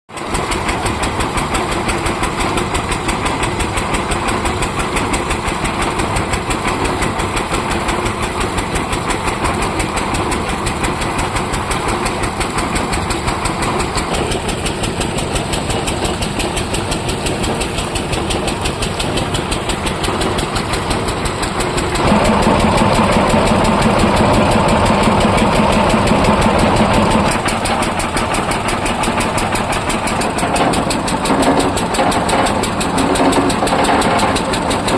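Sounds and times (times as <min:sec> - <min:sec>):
tractor engine running: 0:00.2 - 0:34.9.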